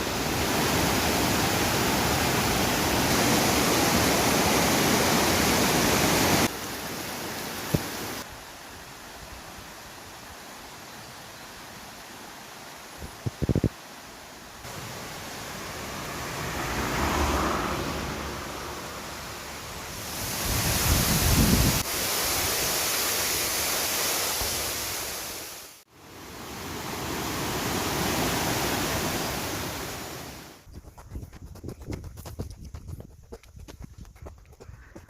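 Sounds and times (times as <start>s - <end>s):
mountain stream rushing: 0.0s - 30.7s.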